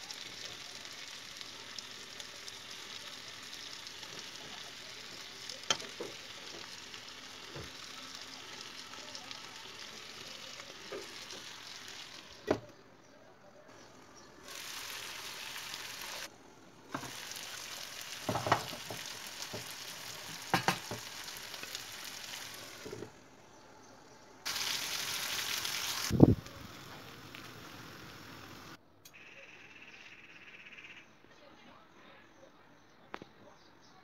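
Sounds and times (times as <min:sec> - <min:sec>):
food sizzling in a frying pan: 0:00.0 - 0:12.6, 0:13.7 - 0:28.8.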